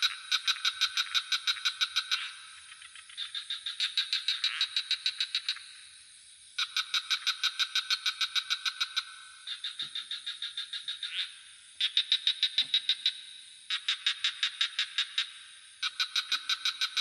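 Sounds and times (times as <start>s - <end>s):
frogs calling in rapid pulses: 0.0s - 17.0s
high-pitched insect trill: 0.0s - 17.0s.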